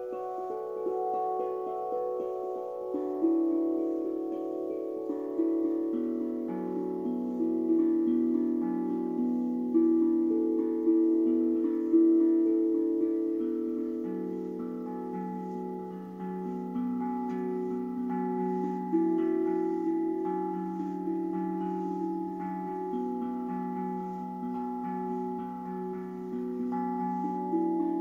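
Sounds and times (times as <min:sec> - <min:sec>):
steel tongue drum melody: 0:00.0 - 0:28.0.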